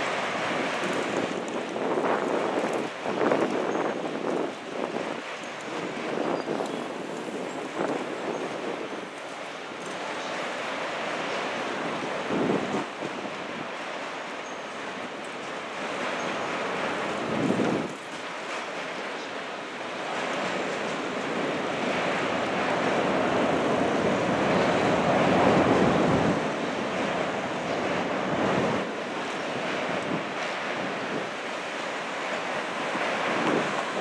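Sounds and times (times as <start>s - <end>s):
wind on microphone: 0.0s - 10.4s, 11.7s - 14.0s, 16.0s - 18.1s, 20.1s - 34.0s
trains rumbling over steel bridge: 0.0s - 34.0s.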